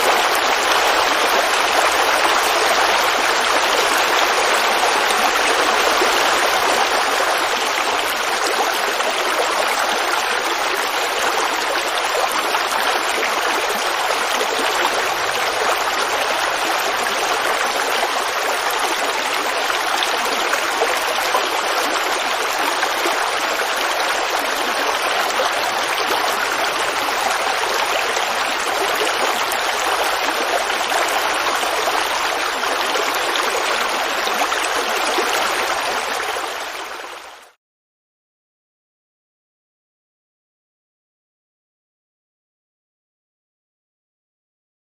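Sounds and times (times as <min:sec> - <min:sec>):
creek water babbling: 0:00.0 - 0:37.6.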